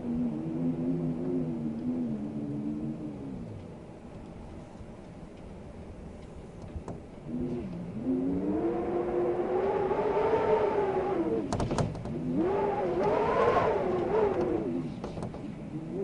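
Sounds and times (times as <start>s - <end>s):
wind gusting and howling: 0.0s - 16.0s.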